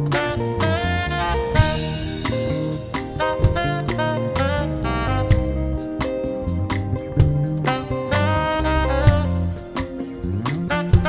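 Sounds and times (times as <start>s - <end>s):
bass: 0.0s - 11.0s
electric guitar: 0.0s - 11.0s
steady drum beat: 0.0s - 11.0s.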